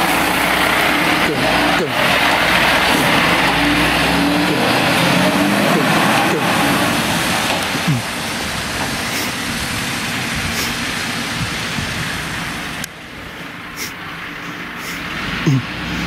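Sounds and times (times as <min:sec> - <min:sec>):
fire truck engine rumble and hiss: 0:00.0 - 0:16.0.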